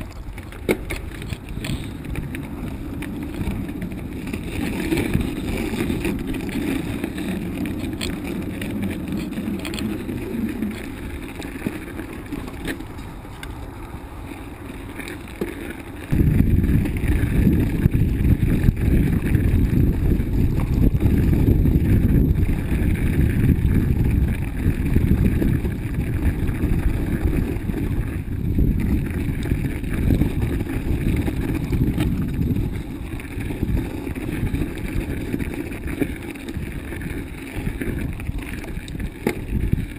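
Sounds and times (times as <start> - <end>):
wind on microphone: 0.0 - 14.0, 16.0 - 39.9
bicycle tyres rumbling and rattling: 0.0 - 39.9.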